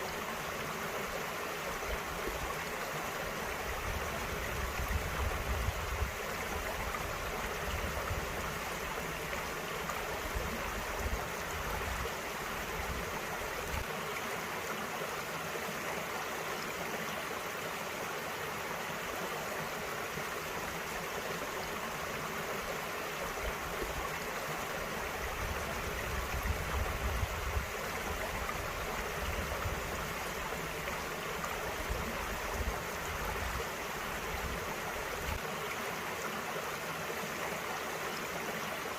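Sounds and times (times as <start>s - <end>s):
creek water splashing over rocks: 0.0s - 38.9s.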